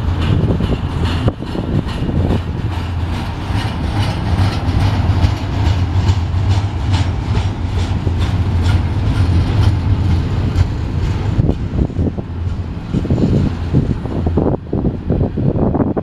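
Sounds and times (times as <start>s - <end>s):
wheels clicking over rail joints: 0.0s - 15.2s
train wheels rumbling on rail: 0.0s - 16.0s.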